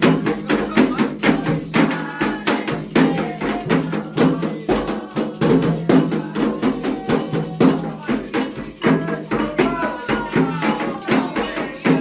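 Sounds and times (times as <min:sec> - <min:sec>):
hand drums: 0:00.0 - 0:12.0
struck percussion beat: 0:00.0 - 0:12.0
voices chanting: 0:00.0 - 0:12.0.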